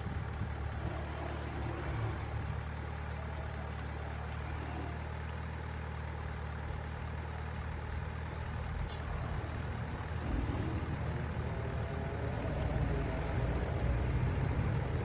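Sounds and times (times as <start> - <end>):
small motors humming: 0.0 - 15.0.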